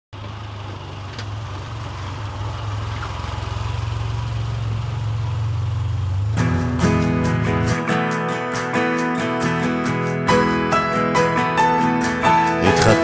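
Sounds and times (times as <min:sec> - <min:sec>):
car engine idling: 0:00.2 - 0:13.0.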